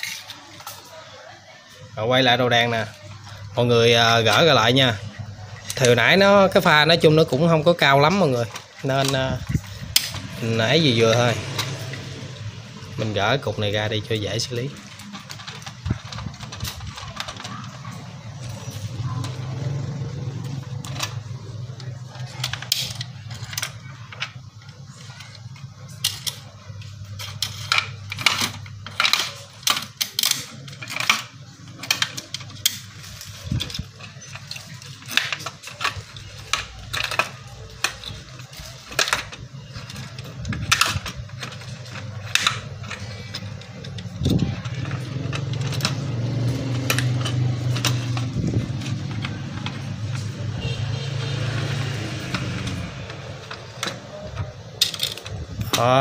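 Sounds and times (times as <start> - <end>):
plastic and metal parts clicking: 2.3 - 56.0.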